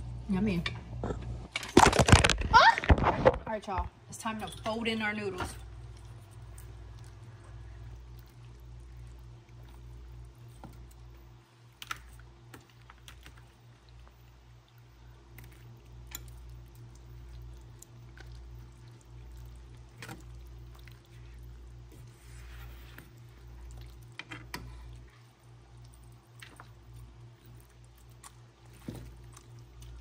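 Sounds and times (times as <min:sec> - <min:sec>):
low steady hum: 0:00.0 - 0:30.0
wet squelches of stirred pasta: 0:04.2 - 0:30.0.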